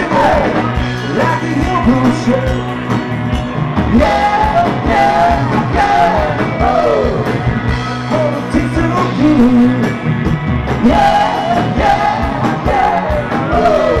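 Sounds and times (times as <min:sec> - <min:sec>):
man singing: 0:00.0 - 0:02.7, 0:03.9 - 0:07.4, 0:08.1 - 0:09.9, 0:10.8 - 0:14.0
rock band playing: 0:00.0 - 0:14.0.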